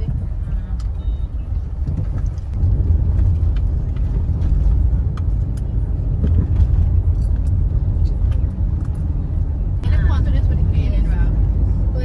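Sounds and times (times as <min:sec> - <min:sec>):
car cabin engine and tyre rumble: 0:00.0 - 0:12.0.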